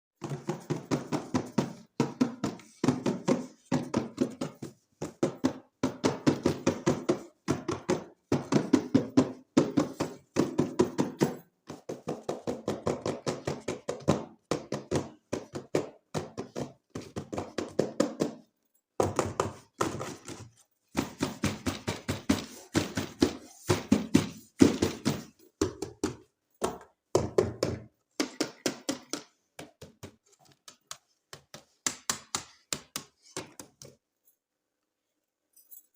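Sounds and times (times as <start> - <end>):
hands tapping toy packaging: 0.2 - 34.0.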